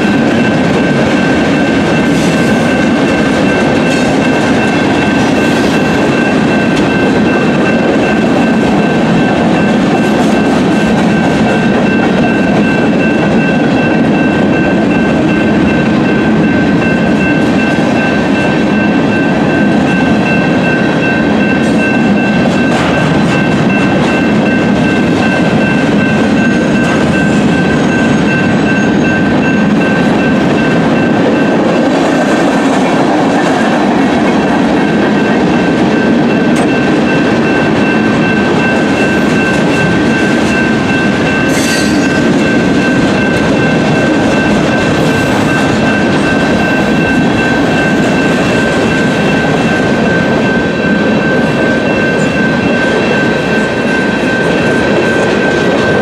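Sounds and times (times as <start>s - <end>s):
crossing bell ringing: 0.0s - 56.0s.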